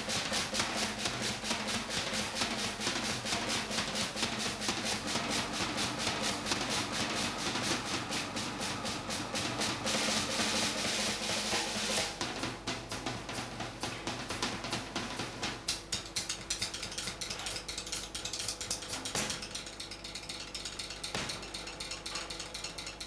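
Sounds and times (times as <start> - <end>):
cymbal wash: 0.0 - 20.0
fast drum beats: 0.0 - 23.0.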